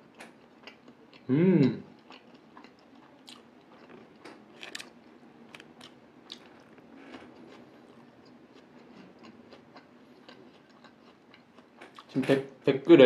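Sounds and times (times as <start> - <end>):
person chewing crunchy food: 0.1 - 12.2.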